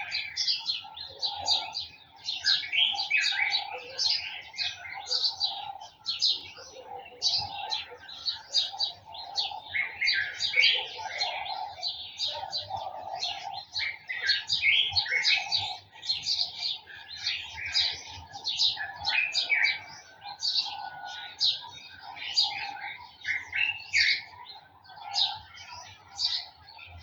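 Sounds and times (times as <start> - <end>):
lower bird calls: 0.0 - 27.0
small birds chirping: 0.0 - 27.0.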